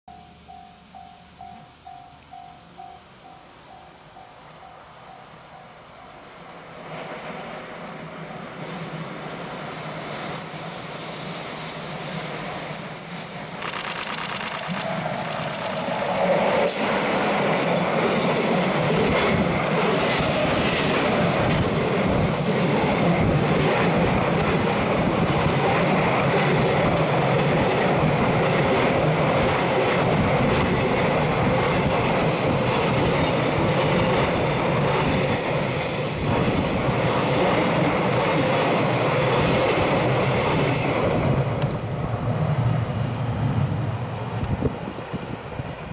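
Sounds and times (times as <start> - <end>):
electric locomotive passing: 0.1 - 45.9
freight train rolling: 0.1 - 45.9.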